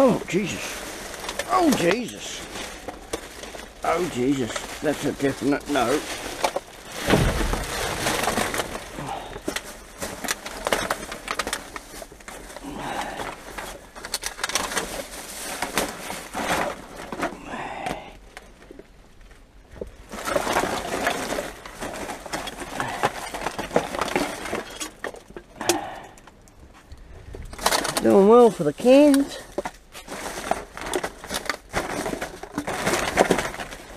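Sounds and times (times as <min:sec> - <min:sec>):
plastic bags rustling: 0:00.0 - 0:33.9.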